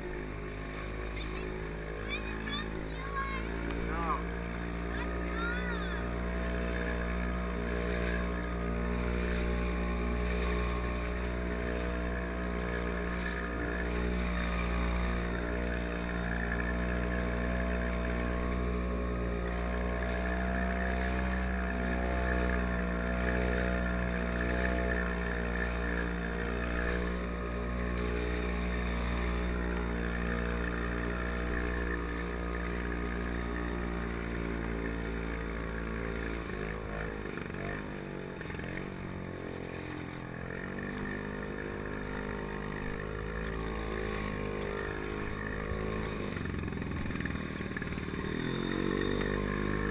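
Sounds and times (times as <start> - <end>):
two-stroke engine running: 0.0 - 49.9.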